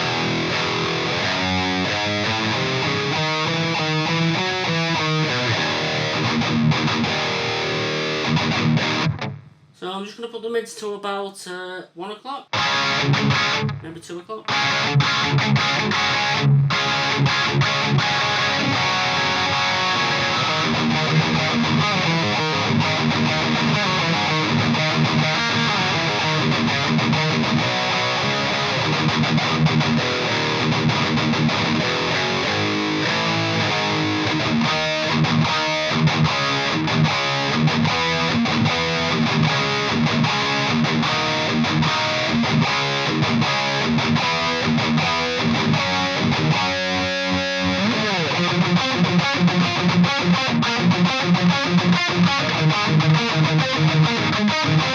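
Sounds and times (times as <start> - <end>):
distorted electric guitar riffing: 0.0 - 10.2, 11.8 - 54.9.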